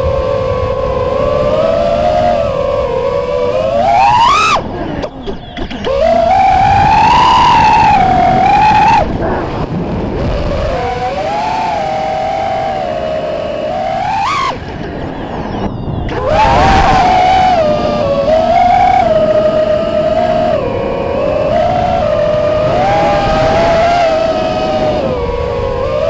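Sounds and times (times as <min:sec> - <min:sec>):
quadcopter motors whining: 0:00.0 - 0:26.0.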